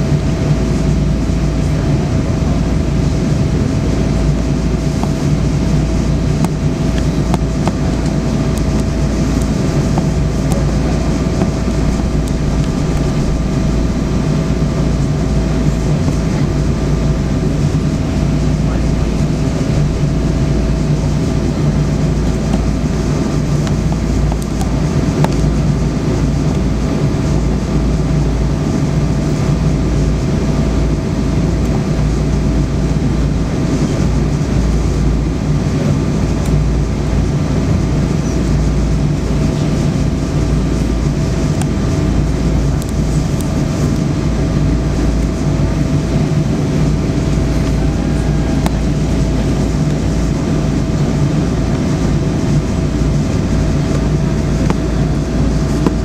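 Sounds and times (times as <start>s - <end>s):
low rumble of engines and wheels: 0.0s - 56.0s
thin steady whine: 0.0s - 56.0s.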